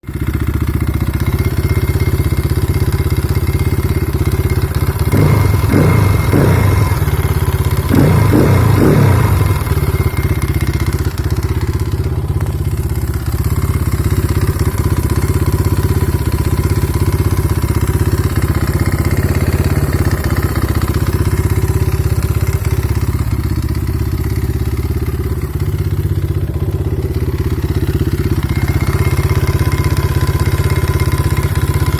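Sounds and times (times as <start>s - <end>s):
motorcycle engine idling with knock: 0.0s - 31.9s
motorcycle engine revving: 0.0s - 31.9s.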